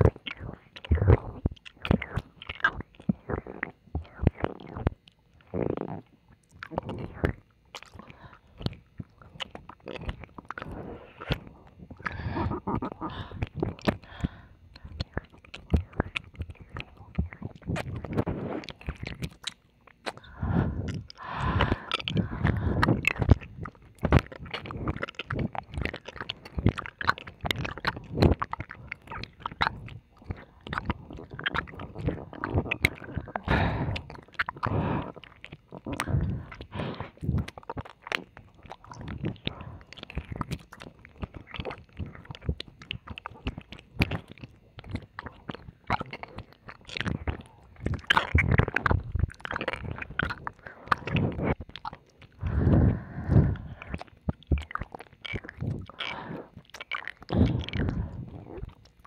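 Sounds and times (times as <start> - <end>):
wet mouth sounds: 0.0 - 59.0.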